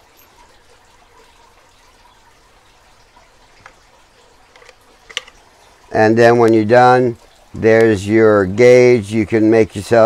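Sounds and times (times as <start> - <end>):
low steady hiss: 0.0 - 10.0.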